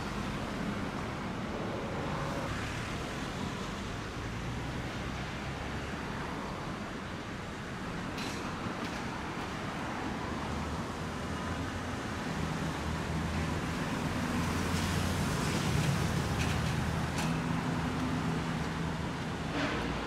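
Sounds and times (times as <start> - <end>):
city traffic noise: 0.0 - 20.0.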